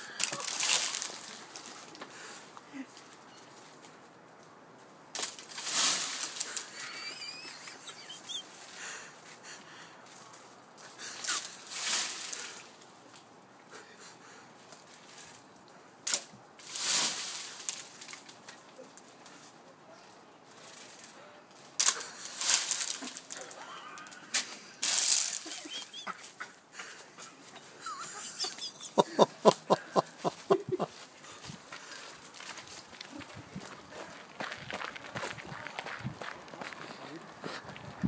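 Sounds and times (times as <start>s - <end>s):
rustling: 0.0s - 8.8s, 11.2s - 13.3s, 14.6s - 37.4s.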